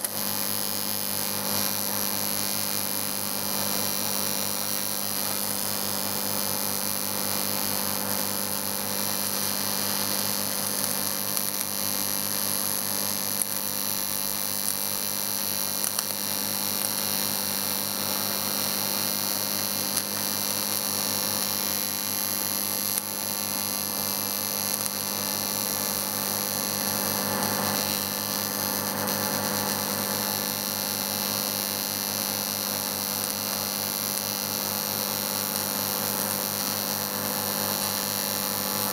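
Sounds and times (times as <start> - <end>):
welding arc buzzing and hissing: 0.0 - 38.9.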